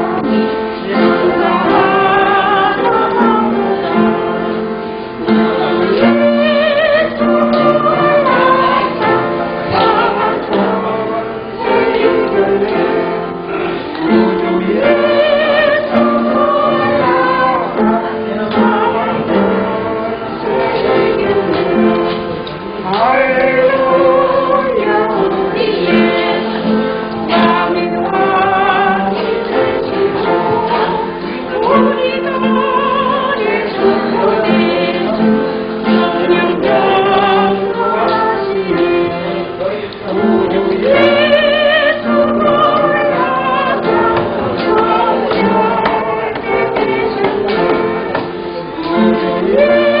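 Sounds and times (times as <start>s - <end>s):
voices singing a hymn: 0.0s - 50.0s.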